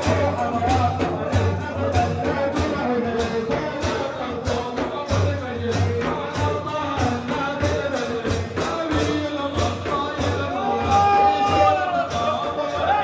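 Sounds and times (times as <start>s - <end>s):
steady drumbeat: 0.0s - 13.0s.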